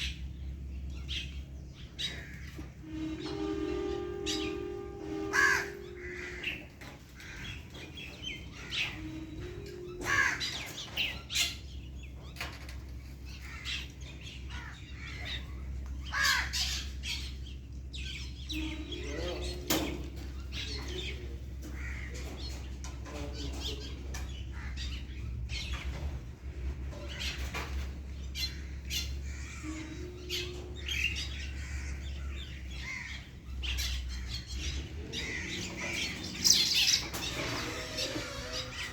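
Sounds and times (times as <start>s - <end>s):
birds chirping and squawking: 0.0s - 38.9s
steady low hum: 0.0s - 38.9s.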